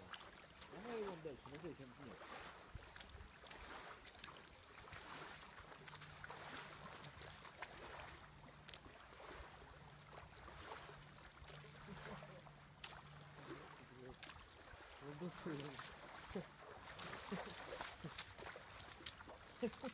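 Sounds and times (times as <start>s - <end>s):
small splashes: 0.0s - 19.9s
water lapping: 0.0s - 19.9s.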